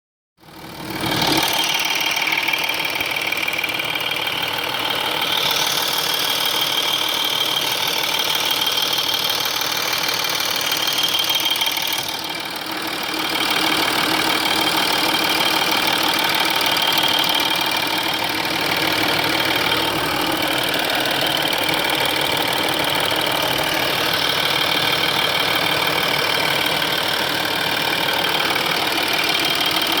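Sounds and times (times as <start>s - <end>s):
diesel engine running: 0.4s - 30.0s
metallic engine ticking: 0.9s - 30.0s.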